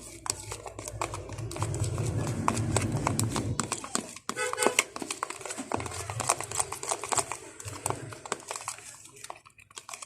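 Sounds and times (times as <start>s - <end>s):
utensil stirring sticky slime: 0.0s - 10.0s.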